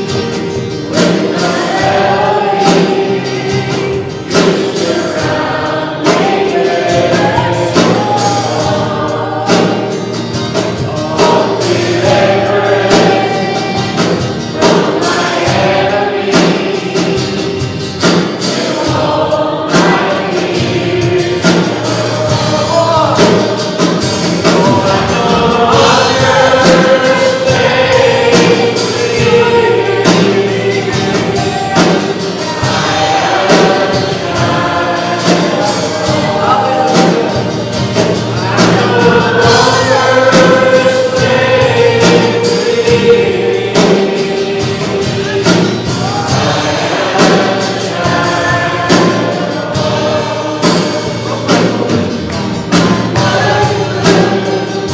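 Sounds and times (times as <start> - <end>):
congregation and band singing hymn: 0.0 - 54.9.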